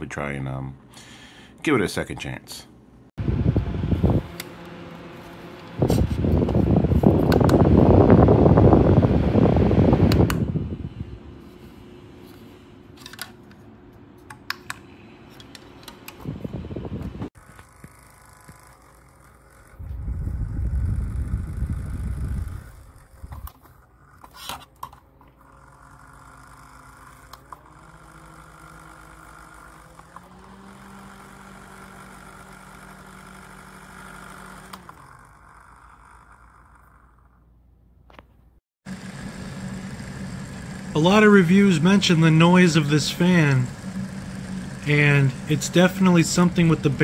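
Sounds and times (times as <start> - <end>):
desk fan motor hum: 0.0 - 37.5, 38.9 - 47.0.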